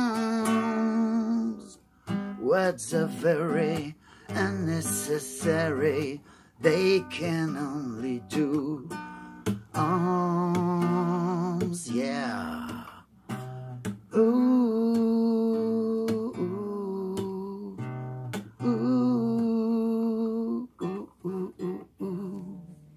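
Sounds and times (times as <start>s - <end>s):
man singing wordless notes: 0.0s - 1.8s, 2.4s - 13.1s, 14.1s - 22.8s
acoustic guitar strummed: 0.0s - 22.9s.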